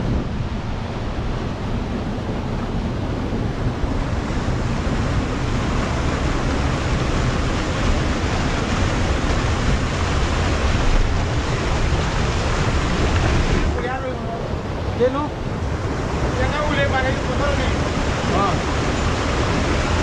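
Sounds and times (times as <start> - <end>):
wind buffeting microphone: 0.0 - 20.0
waterfall rushing: 3.6 - 20.0.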